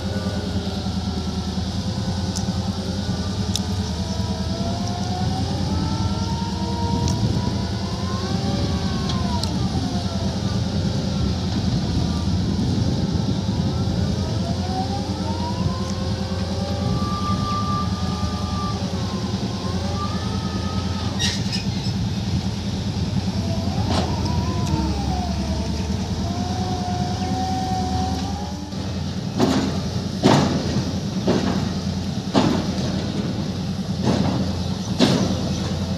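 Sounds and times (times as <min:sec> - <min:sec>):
diesel engine drone: 0:00.0 - 0:35.9
hydraulic whine: 0:00.0 - 0:35.9.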